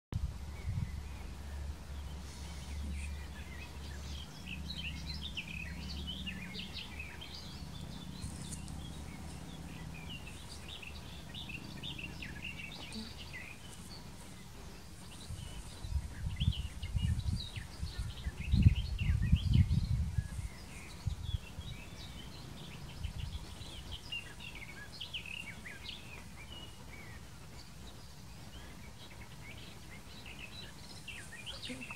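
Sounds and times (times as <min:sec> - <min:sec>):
birds chirping and singing: 0:00.2 - 0:31.9
wind buffeting microphone: 0:00.2 - 0:31.9.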